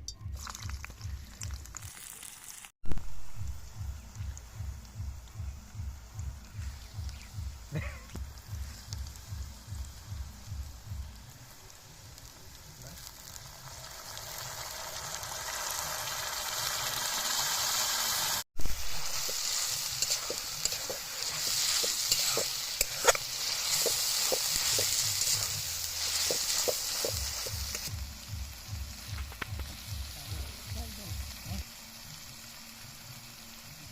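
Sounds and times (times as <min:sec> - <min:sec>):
food sizzling in a pan: 0:00.3 - 0:33.9.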